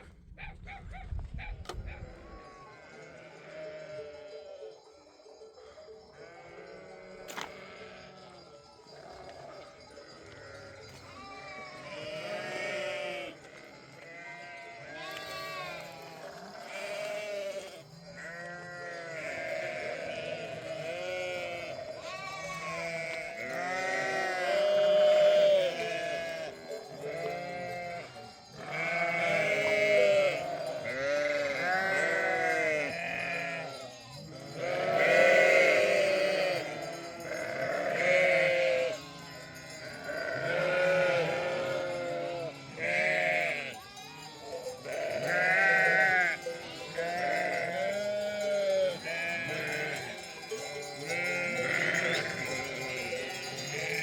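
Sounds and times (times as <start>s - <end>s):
sheep bleating: 2.2s - 4.4s, 6.2s - 8.3s, 9.0s - 50.2s, 50.9s - 54.0s.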